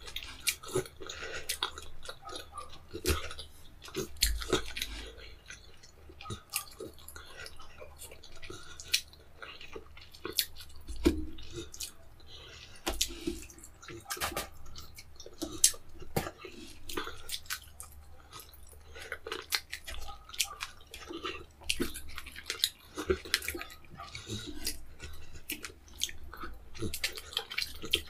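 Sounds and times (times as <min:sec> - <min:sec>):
wet chewing and lip-smacking: 0:00.0 - 0:28.0.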